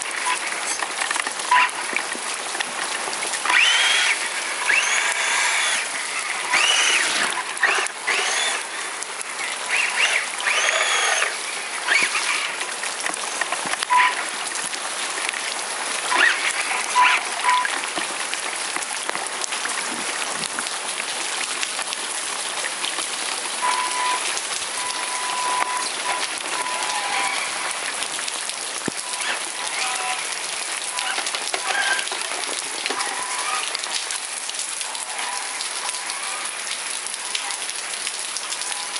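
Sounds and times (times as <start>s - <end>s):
rain pattering on standing water: 0.0s - 38.9s.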